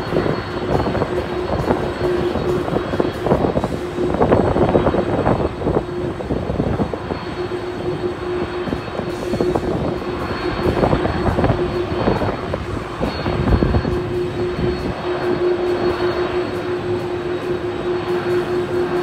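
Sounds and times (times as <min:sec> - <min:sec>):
jet airliner engines running: 0:00.0 - 0:19.0.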